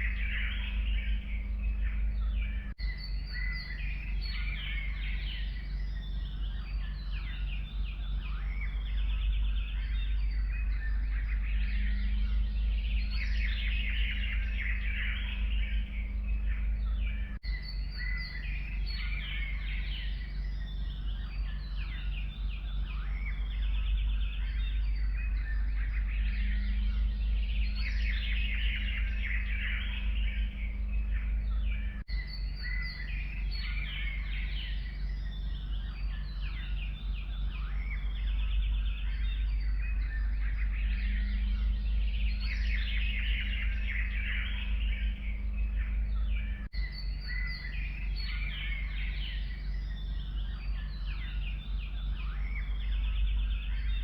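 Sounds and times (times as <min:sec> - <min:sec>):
low background rumble: 0:00.0 - 0:54.0
small birds chirping and trilling: 0:00.0 - 0:54.0.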